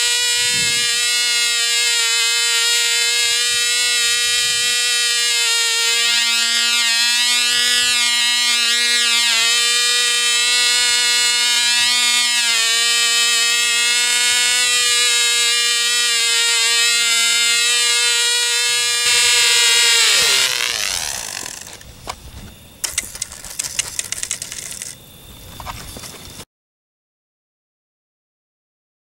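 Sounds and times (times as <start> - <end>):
model airplane engine whine: 0.0 - 26.2.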